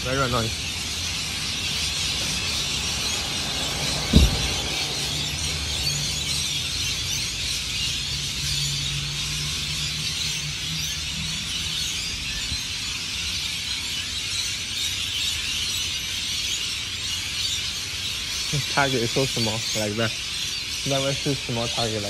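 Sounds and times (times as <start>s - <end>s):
flock of birds calling: 0.0s - 22.0s.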